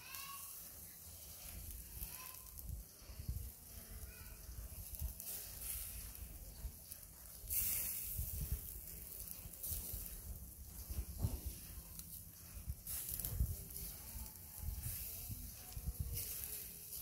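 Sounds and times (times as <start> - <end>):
seafood sizzling on a grill: 0.0 - 17.0.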